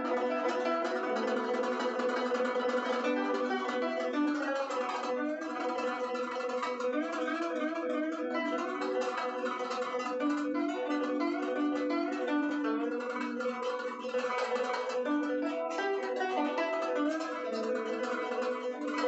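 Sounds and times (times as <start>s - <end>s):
quick plucked zither notes: 0.0s - 19.0s.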